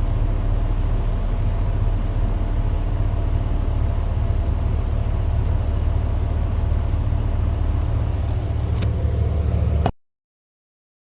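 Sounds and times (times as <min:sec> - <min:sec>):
low mechanical rumble: 0:00.0 - 0:10.0.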